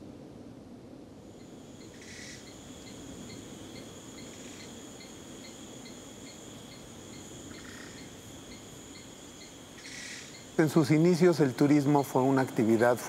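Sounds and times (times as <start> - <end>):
low rushing noise: 0.0 - 13.0
insects chirping: 1.1 - 13.0.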